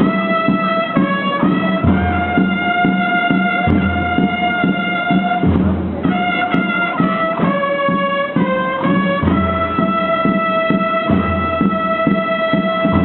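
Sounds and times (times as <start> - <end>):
brass band playing slow march: 0.0 - 13.0.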